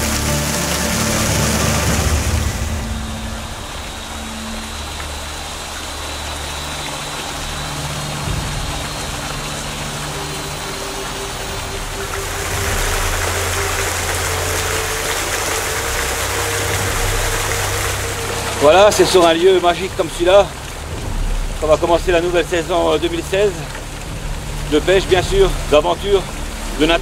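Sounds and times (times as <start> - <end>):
small waterfall splashing: 0.0 - 27.0.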